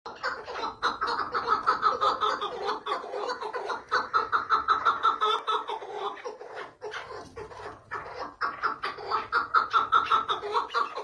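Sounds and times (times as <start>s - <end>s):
partridge chuckling calls: 0.1s - 11.0s.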